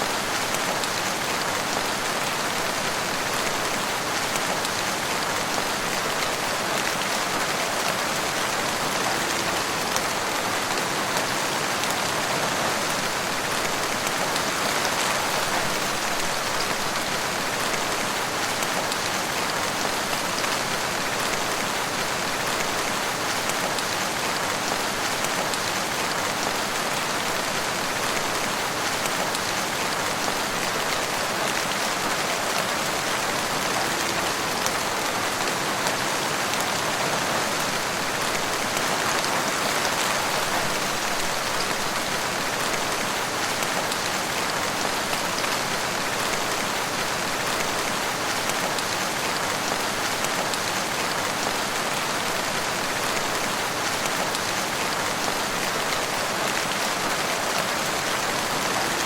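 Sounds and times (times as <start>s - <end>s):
steady rain in a forest: 0.0s - 59.0s.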